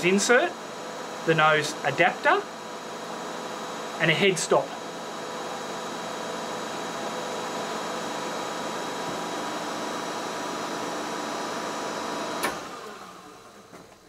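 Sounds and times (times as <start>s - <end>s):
machine motor whirring: 0.0s - 13.8s.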